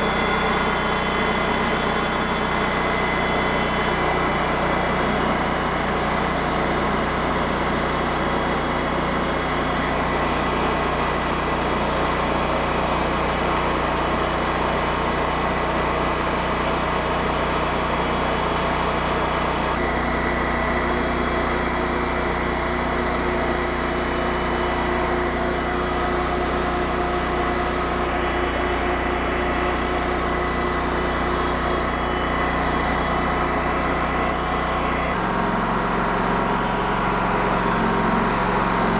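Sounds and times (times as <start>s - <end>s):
band saw blade cutting log: 0.0s - 38.9s
sawmill engine running: 0.0s - 38.9s.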